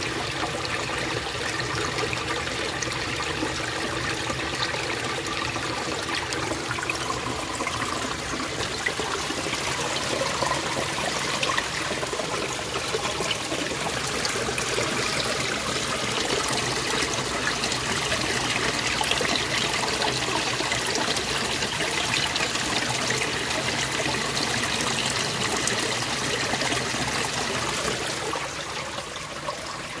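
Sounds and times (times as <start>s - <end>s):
stream water rushing over boulders: 0.0s - 30.0s.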